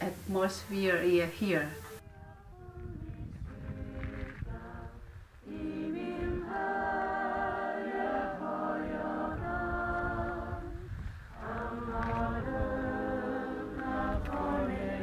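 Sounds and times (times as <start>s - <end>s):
choir singing a cappella: 1.7s - 15.0s.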